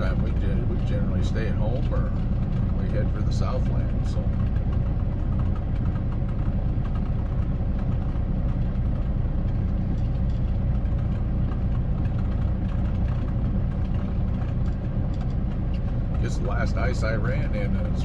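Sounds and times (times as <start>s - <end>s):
diesel truck engine rumble: 0.0s - 18.0s
road noise: 0.0s - 18.0s.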